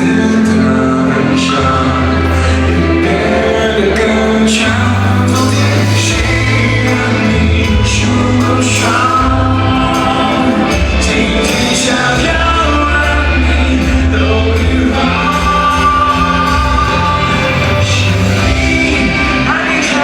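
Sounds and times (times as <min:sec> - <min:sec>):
live band playing: 0:00.0 - 0:20.0
person singing: 0:00.0 - 0:20.0.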